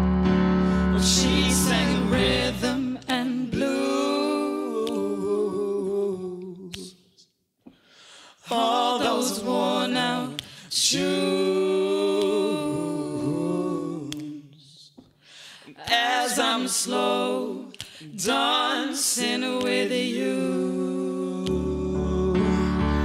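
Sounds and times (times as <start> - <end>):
a cappella group singing: 0.7 - 7.3, 8.1 - 23.0.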